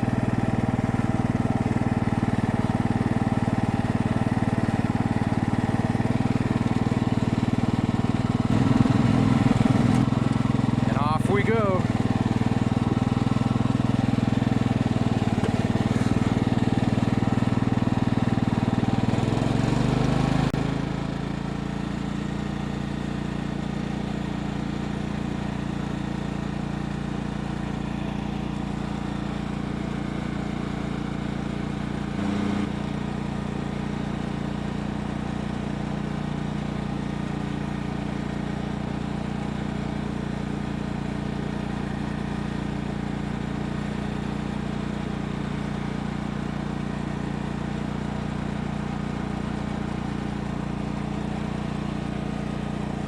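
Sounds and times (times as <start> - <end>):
riding lawn mower engine: 0.0 - 53.0.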